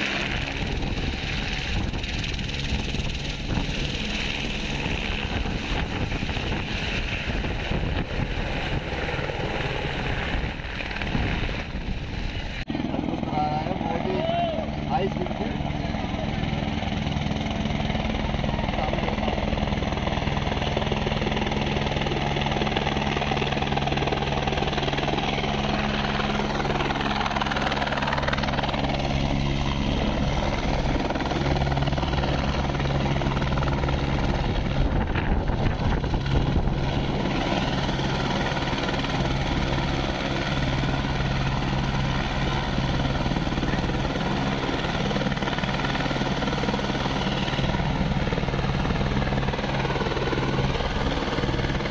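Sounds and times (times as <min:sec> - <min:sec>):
gusty wind buffeting: 0:00.0 - 0:51.9
helicopter engine and rotors: 0:00.0 - 0:51.9.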